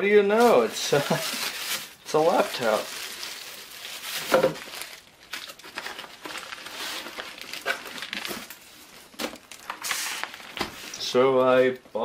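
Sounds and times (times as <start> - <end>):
plastic wrap crinkling: 0.3 - 11.2.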